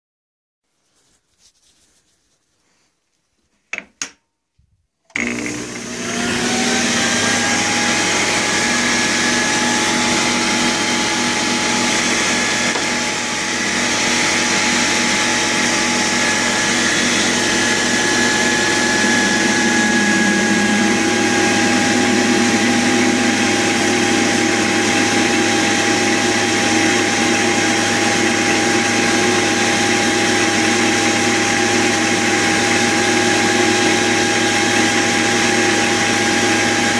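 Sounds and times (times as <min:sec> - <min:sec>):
metal lathe motor whine: 0:05.1 - 0:36.9.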